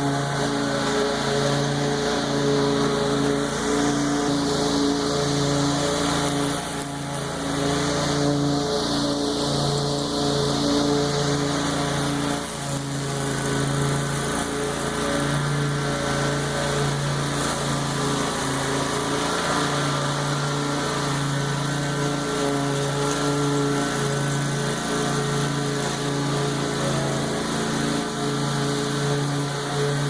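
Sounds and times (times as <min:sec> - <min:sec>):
lawn mower cutting grass: 0:00.0 - 0:30.0.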